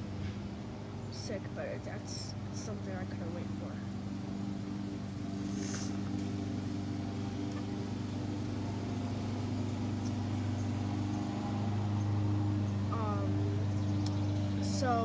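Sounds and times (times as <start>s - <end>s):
motor humming: 2.8s - 15.0s.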